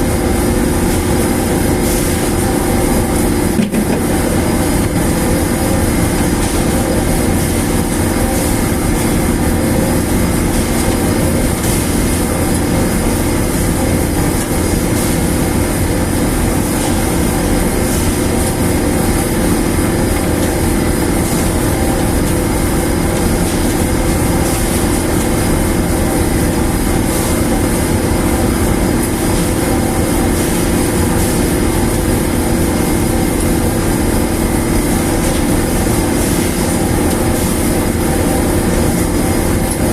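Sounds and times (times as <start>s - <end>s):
heavy machinery rumbling: 0.0s - 39.9s.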